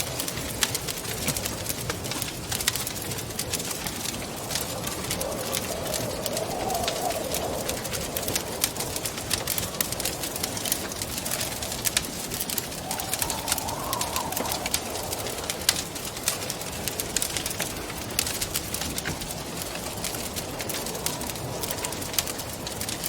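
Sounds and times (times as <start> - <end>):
wind rushing and howling: 0.0 - 23.0
wood fire crackling and popping: 0.0 - 23.0.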